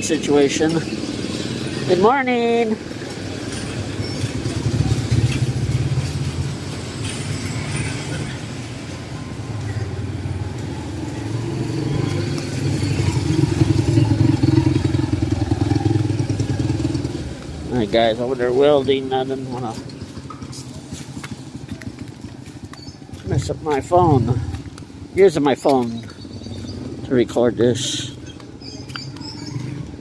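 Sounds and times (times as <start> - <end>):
street noise: 0.0 - 30.0.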